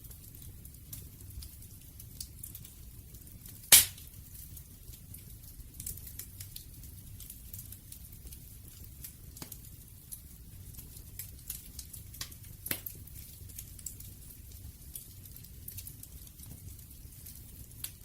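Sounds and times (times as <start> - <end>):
low rumble of burning: 0.0 - 18.0
wood fire crackling and popping: 0.0 - 18.0.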